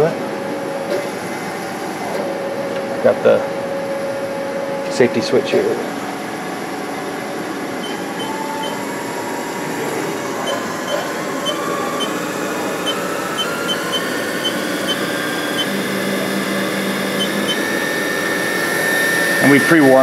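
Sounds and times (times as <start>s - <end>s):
mill spindle whirring: 0.0s - 20.0s.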